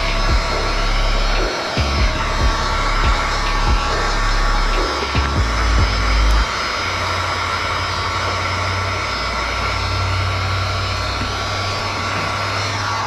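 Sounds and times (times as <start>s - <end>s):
heat gun blowing: 0.0s - 13.0s.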